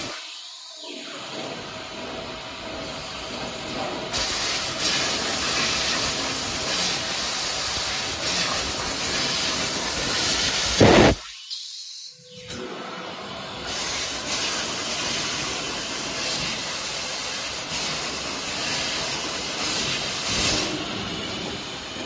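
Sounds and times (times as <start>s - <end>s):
laser tube cutting machine hiss: 0.0s - 12.6s, 13.6s - 22.0s.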